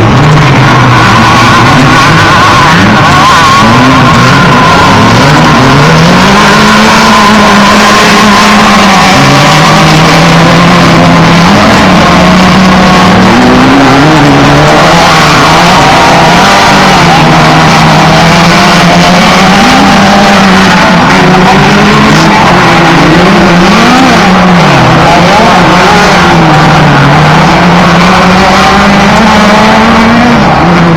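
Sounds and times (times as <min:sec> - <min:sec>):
race truck engines revving: 0:00.0 - 0:30.9.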